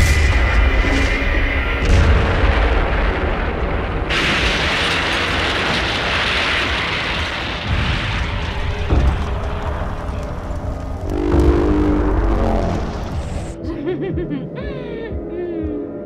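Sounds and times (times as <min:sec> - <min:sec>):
deep rumbling explosion: 0:00.0 - 0:13.6
explosion with loud rushing noise: 0:00.0 - 0:13.6.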